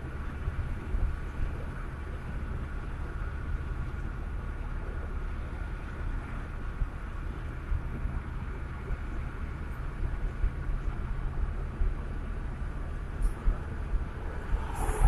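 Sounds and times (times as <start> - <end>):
car road noise inside cabin: 0.0 - 15.0
faint steady hum: 0.0 - 15.0.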